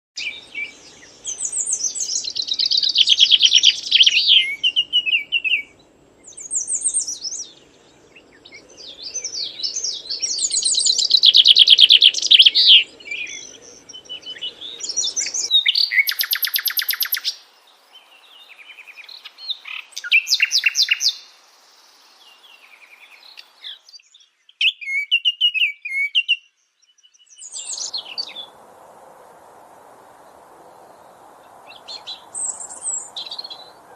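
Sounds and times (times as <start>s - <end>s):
birds singing and chirping: 0.2s - 28.6s, 30.8s - 33.9s.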